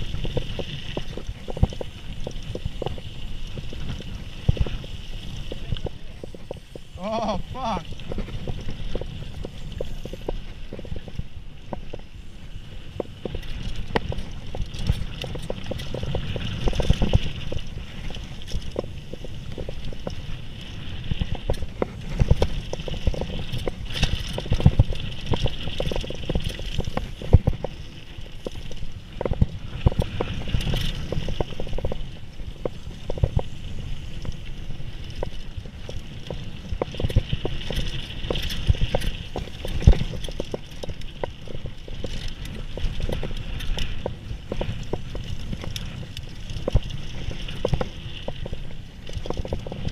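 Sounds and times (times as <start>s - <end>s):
bike knocks and rattles: 0.0s - 49.9s
bike tyres rumbling on dirt: 0.0s - 49.9s.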